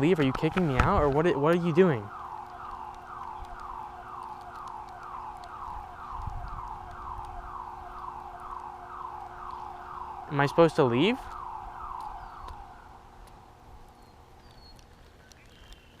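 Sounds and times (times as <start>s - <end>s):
warbling alarm siren: 0.0s - 14.6s.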